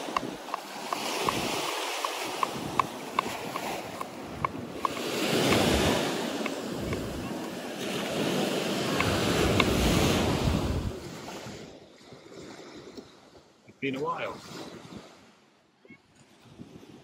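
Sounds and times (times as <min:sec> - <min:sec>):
sea waves washing onto shore: 0:00.0 - 0:15.4.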